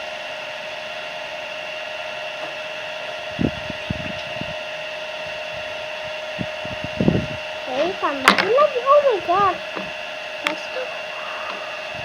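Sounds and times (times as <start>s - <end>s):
fan motor whirring hum: 0.0s - 12.0s.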